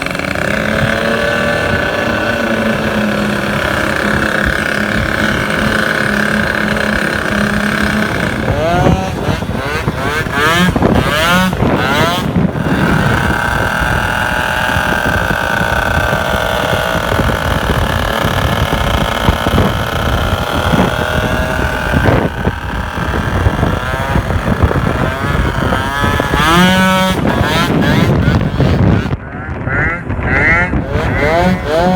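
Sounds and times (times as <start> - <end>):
two-stroke scooter engine revving: 0.0 - 31.9.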